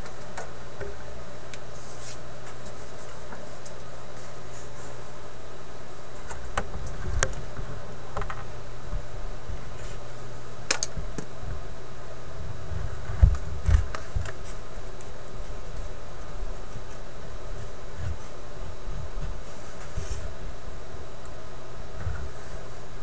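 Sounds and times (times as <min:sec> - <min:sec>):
background hum: 0:00.0 - 0:23.0.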